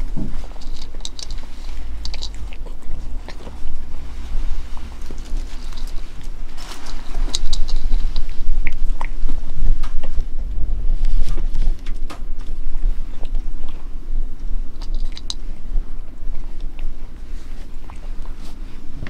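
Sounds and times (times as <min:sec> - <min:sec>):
cat crunching dry kibble: 0:00.0 - 0:19.0
steady low rumble: 0:00.0 - 0:19.0.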